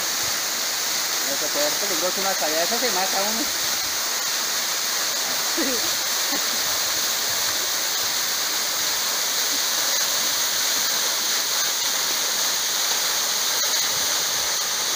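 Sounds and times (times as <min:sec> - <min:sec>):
waterfall falling onto rock: 0:00.0 - 0:14.9.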